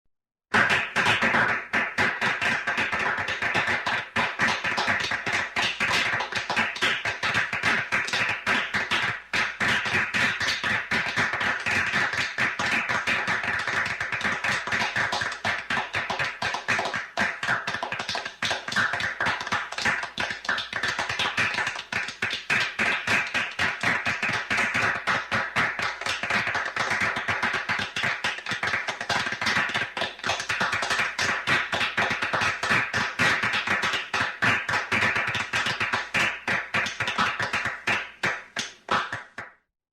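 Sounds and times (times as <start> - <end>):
people clapping: 0.5 - 39.7.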